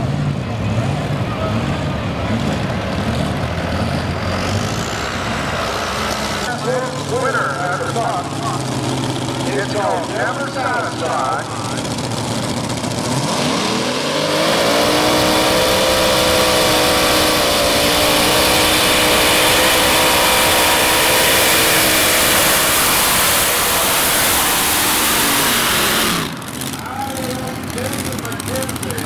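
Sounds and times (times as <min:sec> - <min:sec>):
tractor engines revving: 0:00.0 - 0:29.0.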